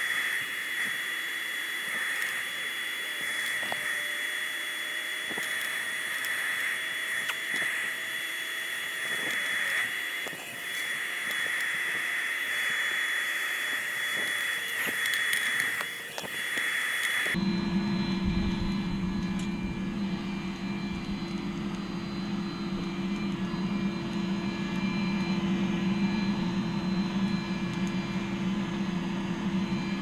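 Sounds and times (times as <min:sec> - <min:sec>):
forge hissing: 0:00.0 - 0:24.6
thin high whine: 0:00.0 - 0:30.0.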